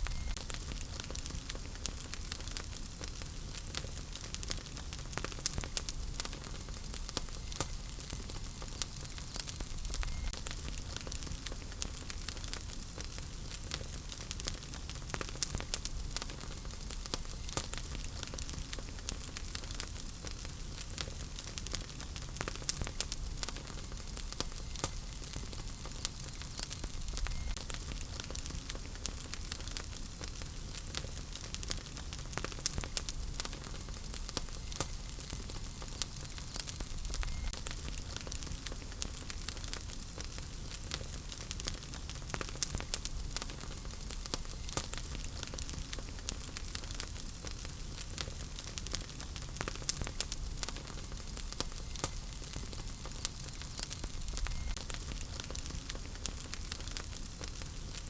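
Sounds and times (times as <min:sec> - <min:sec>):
fire crackles and pops: 0:00.0 - 0:58.0
wood fire hissing and rumbling: 0:00.0 - 0:58.0.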